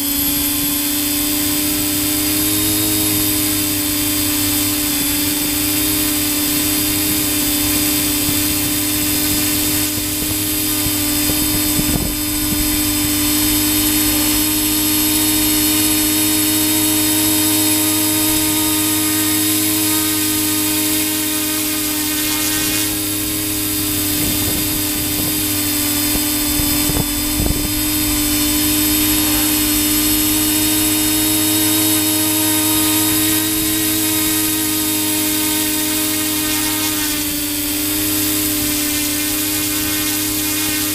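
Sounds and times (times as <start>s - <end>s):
model aircraft motors whining: 0.0s - 40.9s.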